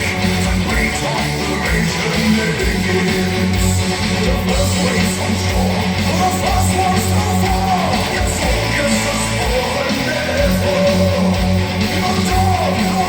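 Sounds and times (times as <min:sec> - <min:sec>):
rock music over loudspeakers: 0:00.0 - 0:13.0.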